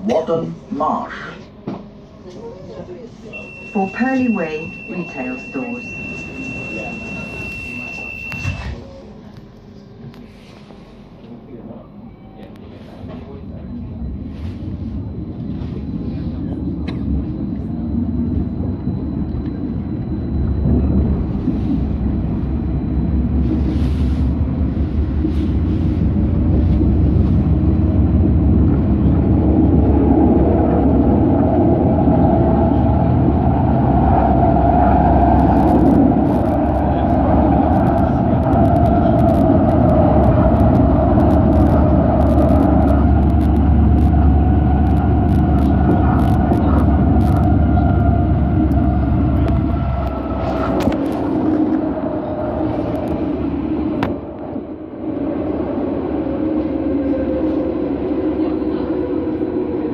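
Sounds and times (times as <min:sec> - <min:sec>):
tram rumbling on rails: 0:00.0 - 0:59.9
steady whine: 0:00.3 - 0:59.9.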